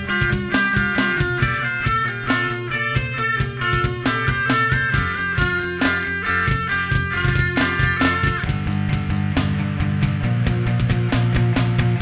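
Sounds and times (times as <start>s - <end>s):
electric guitar music: 0.0s - 12.0s.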